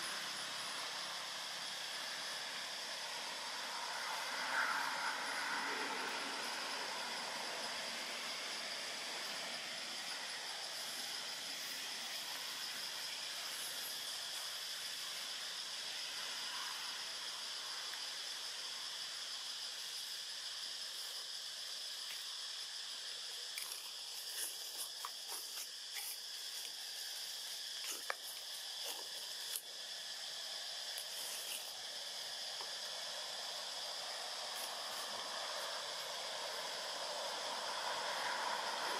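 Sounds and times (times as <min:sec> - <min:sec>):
high-pitched insect drone: 0:00.0 - 0:38.9
outdoor hiss: 0:06.1 - 0:38.9.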